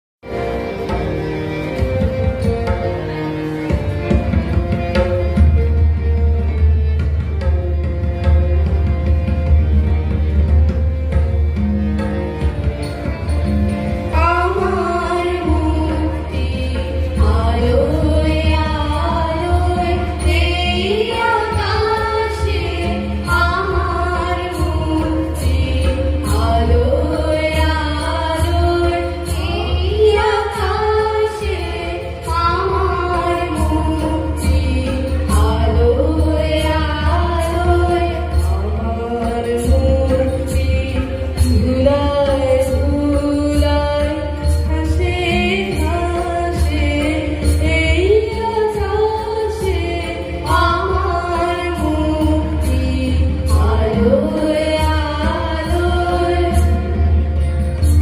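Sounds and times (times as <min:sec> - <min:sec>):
instrumental accompaniment: 0:00.2 - 0:58.0.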